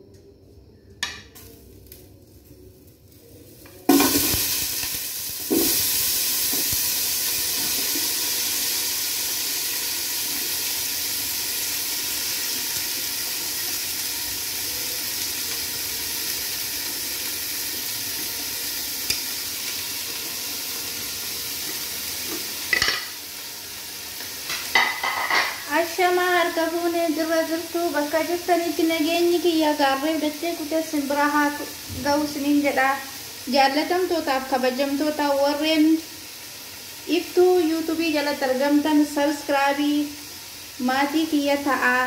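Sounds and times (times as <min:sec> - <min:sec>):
vegetables sizzling in hot oil: 0:01.0 - 0:42.0.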